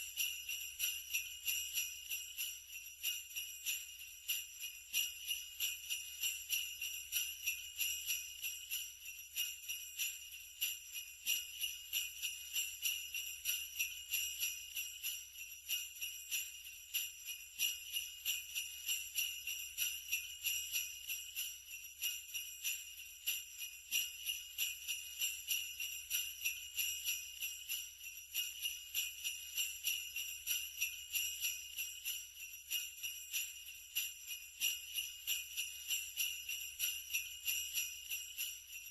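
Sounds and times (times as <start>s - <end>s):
sleigh bells jingling: 0.0s - 38.9s.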